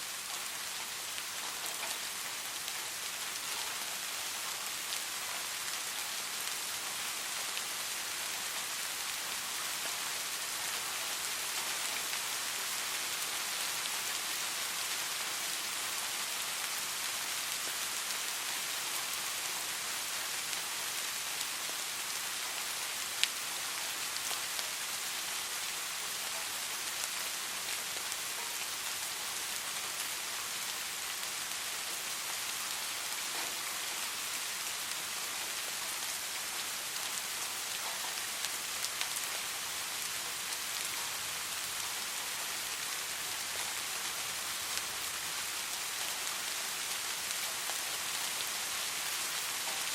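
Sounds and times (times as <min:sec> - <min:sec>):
soft steady rain: 0:00.0 - 0:49.9.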